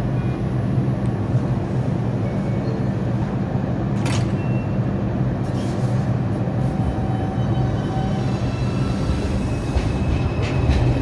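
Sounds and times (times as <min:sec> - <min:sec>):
subway train low hum: 0:00.0 - 0:11.0
train doors closing: 0:02.0 - 0:11.0.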